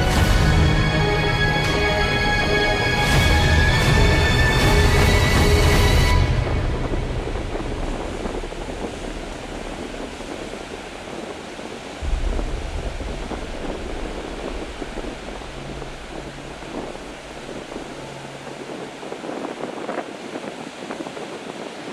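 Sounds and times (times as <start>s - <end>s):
ocean surf breaking: 0.0s - 21.9s
wind rumble on microphone: 0.0s - 21.9s.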